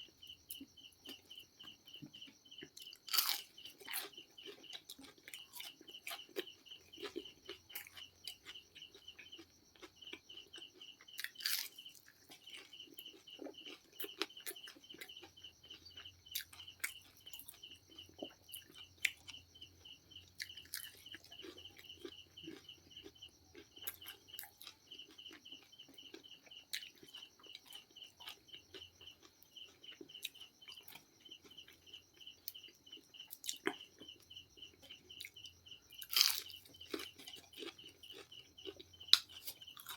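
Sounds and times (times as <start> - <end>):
chewing crunchy fried food: 0.0 - 39.9.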